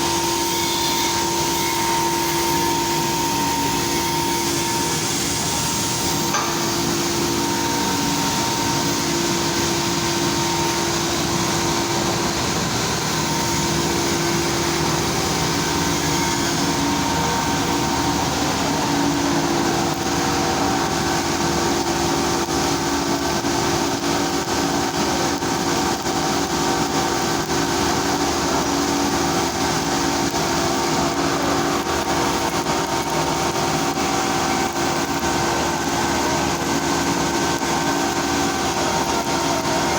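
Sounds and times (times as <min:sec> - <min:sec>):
machinery hum with steady tones: 0:00.0 - 0:39.9.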